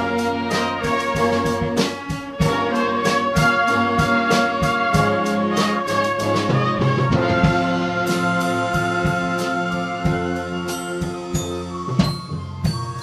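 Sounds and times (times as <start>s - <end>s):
brass holding chords: 0.0s - 12.8s
percussion strikes: 0.0s - 13.0s.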